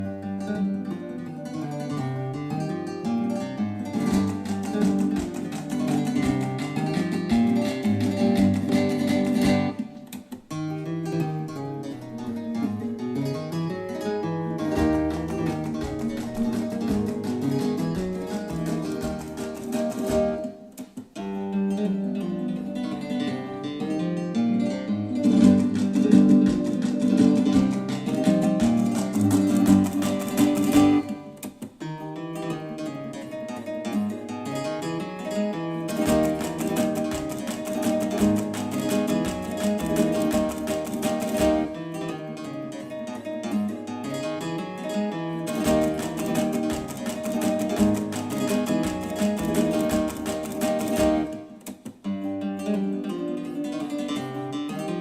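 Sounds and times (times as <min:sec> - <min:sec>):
plucked acoustic guitar music: 0:00.0 - 0:55.0.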